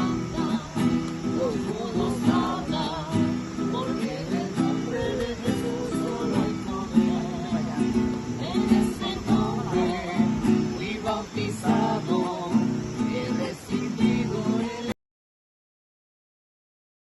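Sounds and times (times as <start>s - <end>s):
acoustic guitar strumming: 0.0s - 15.0s
voices singing along: 0.0s - 15.0s.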